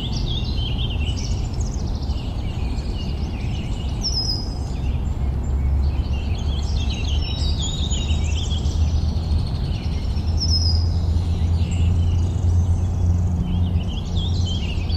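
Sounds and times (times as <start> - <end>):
birds chirping and singing: 0.0 - 14.9
steady low rumble: 0.0 - 14.9.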